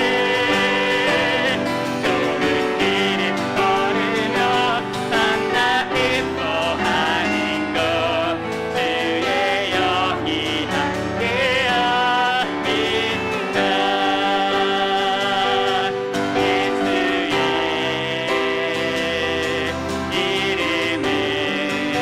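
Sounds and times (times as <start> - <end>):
group singing a worship song: 0.0 - 22.0
piano chords: 0.0 - 22.0.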